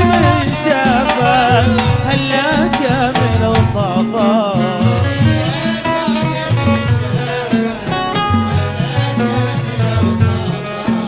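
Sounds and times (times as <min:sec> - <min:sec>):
bass notes: 0:00.0 - 0:10.8
hand percussion: 0:00.0 - 0:11.0
melodic instrumental line: 0:00.0 - 0:11.0.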